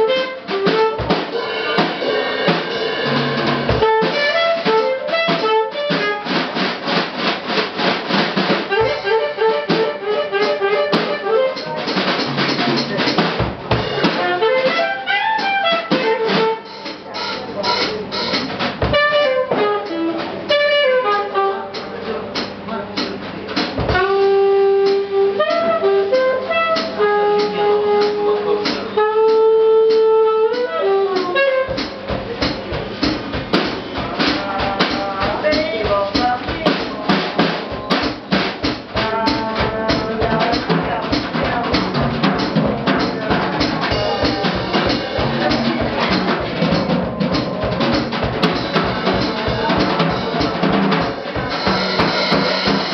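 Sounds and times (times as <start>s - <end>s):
alto saxophone playing jazz: 0.0s - 22.6s, 23.4s - 52.9s
drum kit playing: 0.0s - 52.9s.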